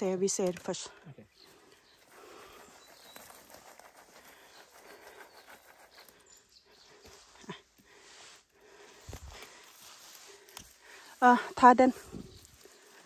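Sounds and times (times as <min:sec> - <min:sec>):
bushes rustling: 0:00.0 - 0:13.0.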